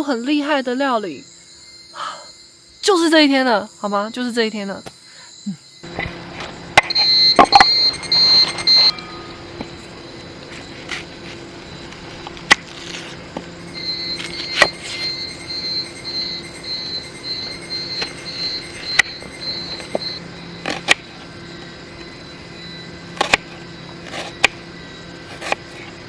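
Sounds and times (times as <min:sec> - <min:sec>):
insect chirping: 0:00.0 - 0:26.0.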